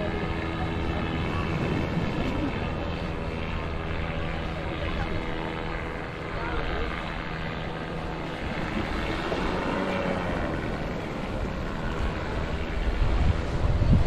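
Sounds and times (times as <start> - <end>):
faint motor drone: 0.0 - 14.0
wind buffeting microphone: 0.0 - 14.0.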